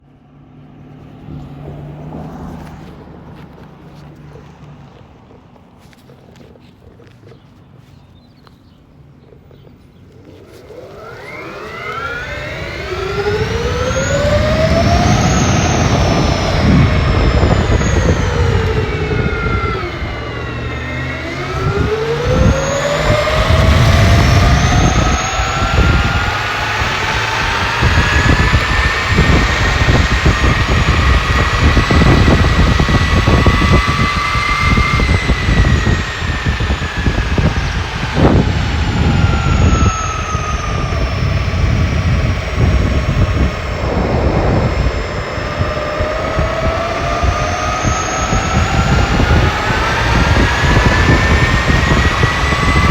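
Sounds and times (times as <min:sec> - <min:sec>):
electric motor whining: 0:00.8 - 0:52.9
steady rumbling noise: 0:09.1 - 0:52.9.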